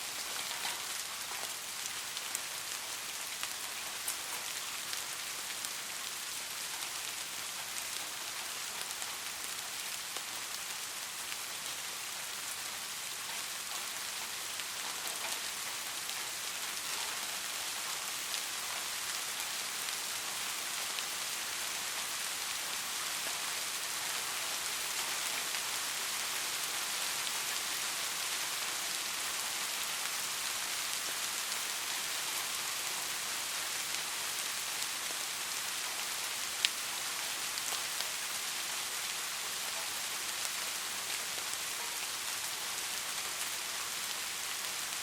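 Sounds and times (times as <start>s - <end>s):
rain falling on a street: 0.0s - 45.0s.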